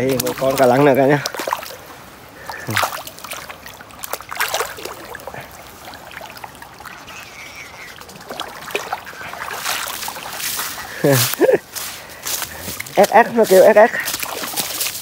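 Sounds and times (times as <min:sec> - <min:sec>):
shallow water splashing: 0:00.0 - 0:15.0.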